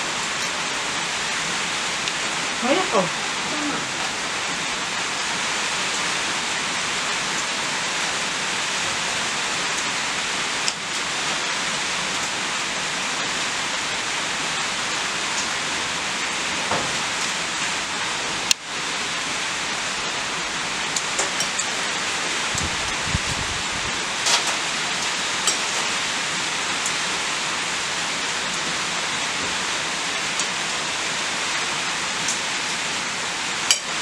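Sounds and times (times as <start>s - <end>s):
steady hiss of noise: 0.0s - 34.0s.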